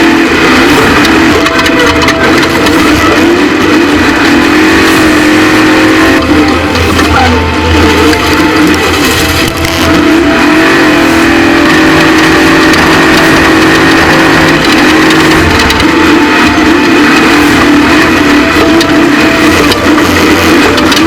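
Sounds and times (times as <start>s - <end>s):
truck engine at high revs: 0.0s - 21.0s.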